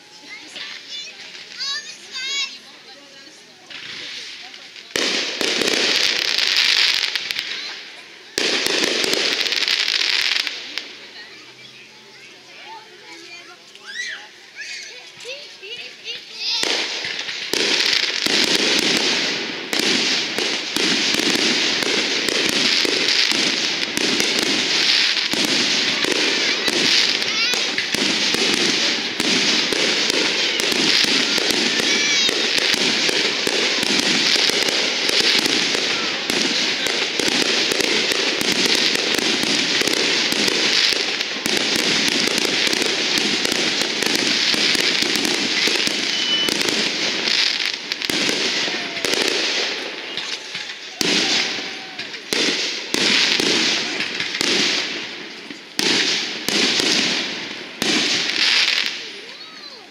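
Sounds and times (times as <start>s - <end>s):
fireworks bursting and popping: 0.0s - 59.9s.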